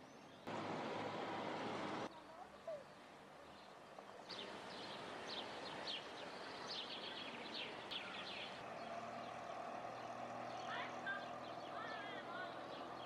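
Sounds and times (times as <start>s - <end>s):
outdoor background hiss: 0.0s - 13.0s
bird chirping: 2.1s - 13.0s.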